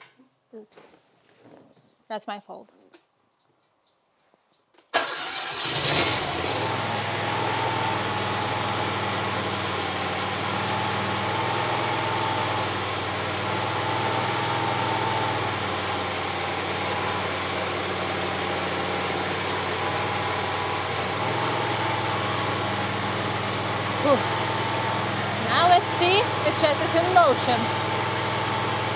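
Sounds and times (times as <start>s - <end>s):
hydraulic whine: 5.5s - 28.9s
skid steer engine running: 5.6s - 28.9s.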